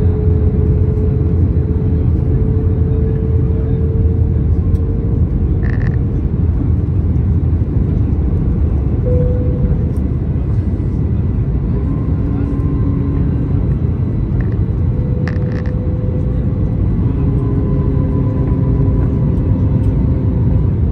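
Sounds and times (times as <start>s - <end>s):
aircraft cabin engine drone: 0.0s - 20.9s.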